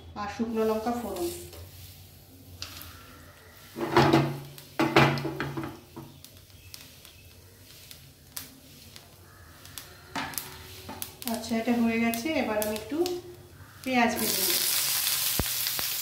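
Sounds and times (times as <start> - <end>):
spices frying in hot oil: 0.1 - 16.0
crackles and pops: 2.4 - 16.0.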